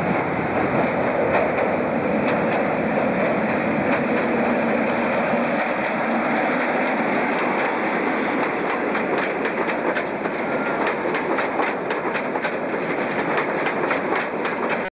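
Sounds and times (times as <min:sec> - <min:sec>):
clickety-clack over rail joints: 0:00.0 - 0:14.9
train wheels rumbling: 0:00.0 - 0:14.9.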